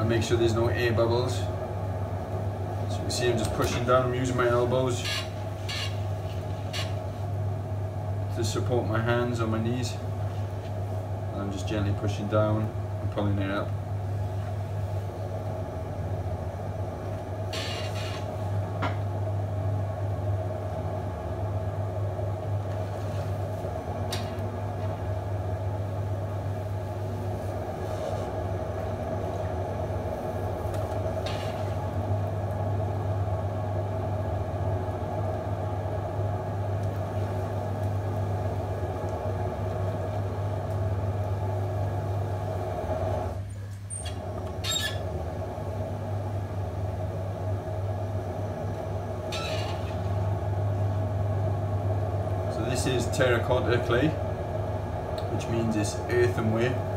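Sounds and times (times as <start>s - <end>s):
potter's wheel motor hum: 0.0s - 56.9s.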